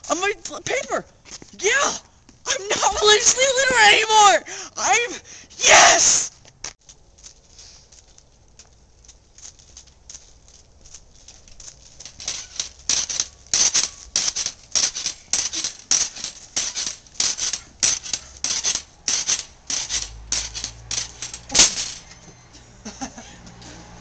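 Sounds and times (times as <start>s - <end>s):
footsteps on concrete: 0.0s - 4.1s, 6.0s - 22.4s.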